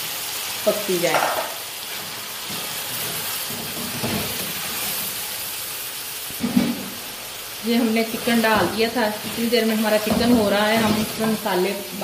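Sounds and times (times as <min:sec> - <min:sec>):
chicken frying in oil: 0:02.2 - 0:12.0.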